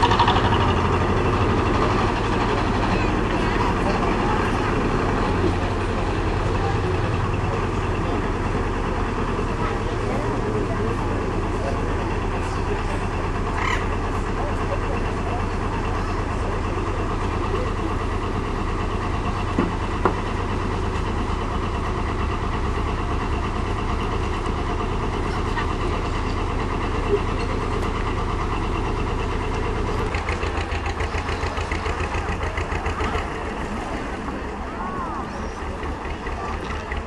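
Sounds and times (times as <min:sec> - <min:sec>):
boat engine rumbling: 0:00.0 - 0:37.0.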